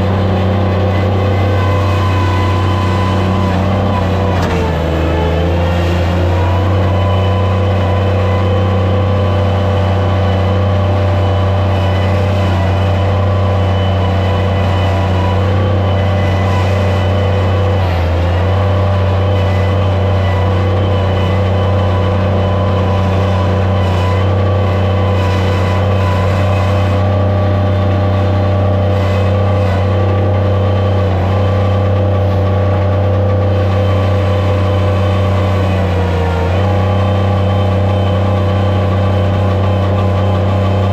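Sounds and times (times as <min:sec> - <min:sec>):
loader engine running: 0:00.0 - 0:40.9.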